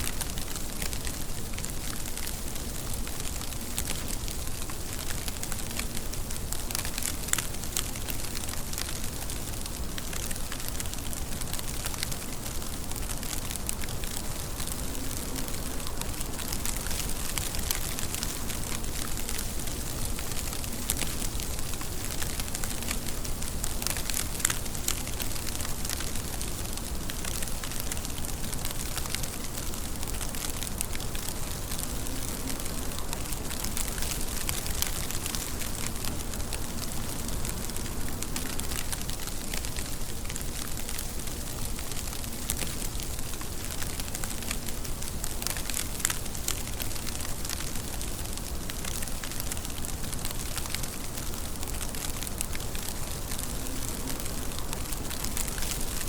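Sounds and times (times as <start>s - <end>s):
raindrops ticking: 0.0s - 56.0s
steady rain: 0.0s - 56.0s.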